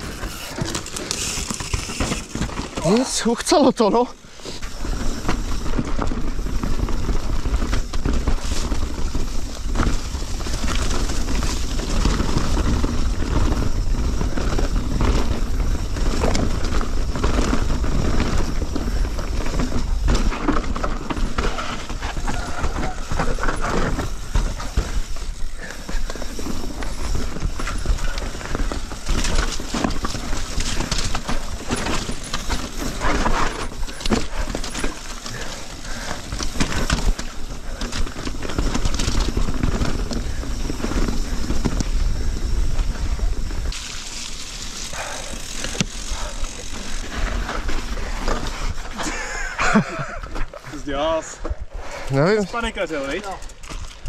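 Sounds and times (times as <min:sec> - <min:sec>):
bike rattling over bumps: 0:00.0 - 0:54.0
bike tyres rolling over dirt: 0:00.0 - 0:54.0.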